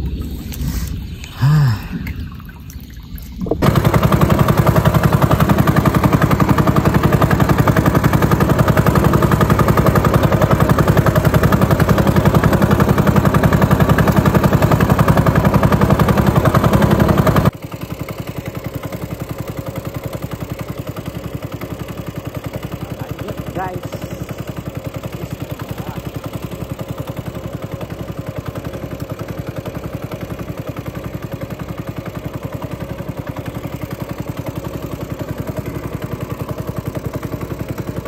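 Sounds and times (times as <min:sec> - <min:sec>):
small boat engine pulsing: 0:00.0 - 0:38.0.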